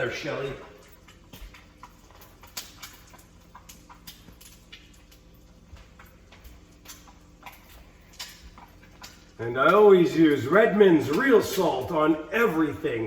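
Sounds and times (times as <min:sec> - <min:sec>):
eggs frying in a pan: 0:00.0 - 0:13.0
low steady hum: 0:00.0 - 0:13.0.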